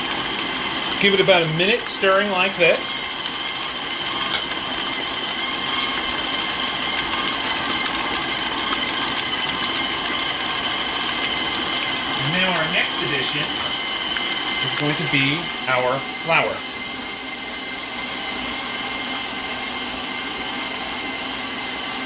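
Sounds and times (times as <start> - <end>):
stand mixer whirring: 0.0 - 22.0.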